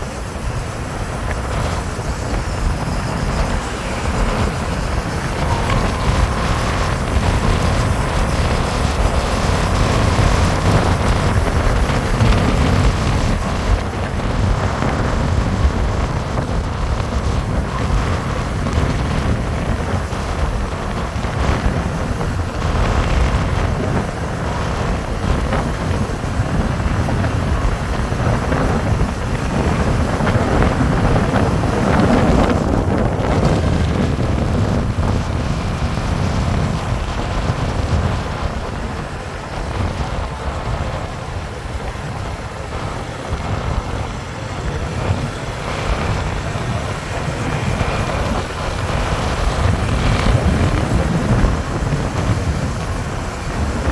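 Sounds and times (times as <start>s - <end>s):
motorcycle engine running: 0.0s - 53.9s
tyre noise on road: 0.0s - 53.9s
wind buffeting microphone: 0.0s - 53.9s.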